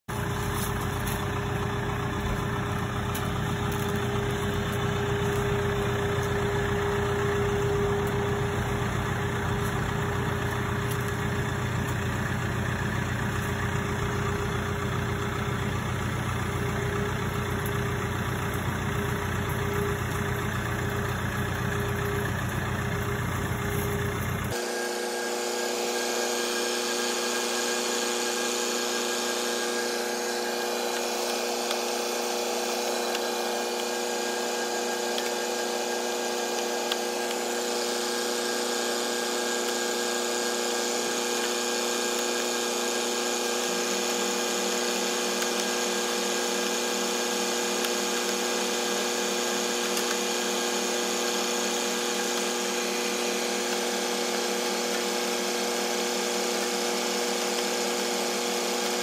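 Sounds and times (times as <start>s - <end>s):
tractor engine running: 0.1s - 24.6s, 29.6s - 57.7s
hose winder hum and whine: 0.1s - 59.0s.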